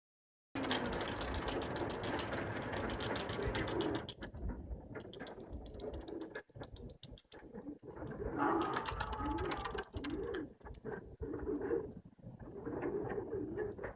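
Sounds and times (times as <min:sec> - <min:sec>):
pigeon wings flapping: 0:00.6 - 0:11.8.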